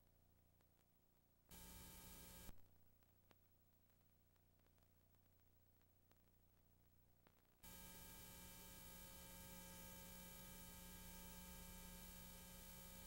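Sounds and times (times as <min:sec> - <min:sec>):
tape hiss with electrical hum: 0:00.0 - 0:13.0.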